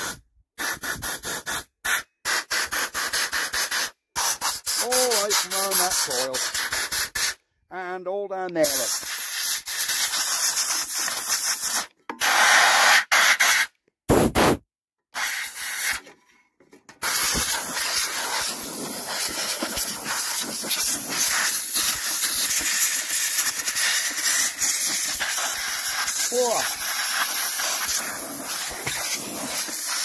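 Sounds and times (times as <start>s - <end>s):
compressed air blow gun hissing: 0.0s - 7.4s, 8.6s - 14.6s, 15.2s - 16.0s, 17.0s - 30.0s.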